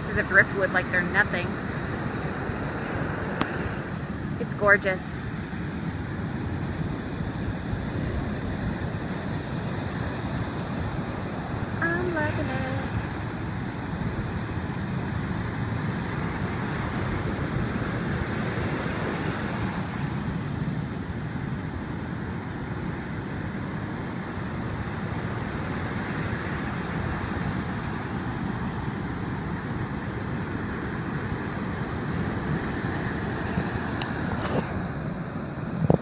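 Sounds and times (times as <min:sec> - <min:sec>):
ocean surf on sand beach: 0:00.0 - 0:36.0
wind rumbling on microphone: 0:00.0 - 0:36.0.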